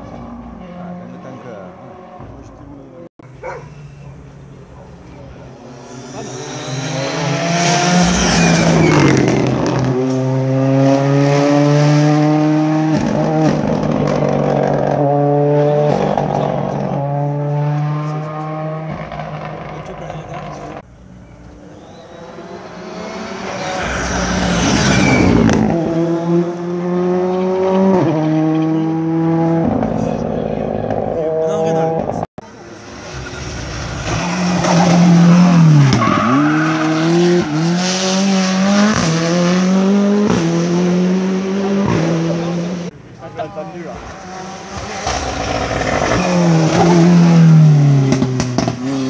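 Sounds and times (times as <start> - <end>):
rally car passing at full throttle: 4.0 - 20.9, 21.6 - 49.0.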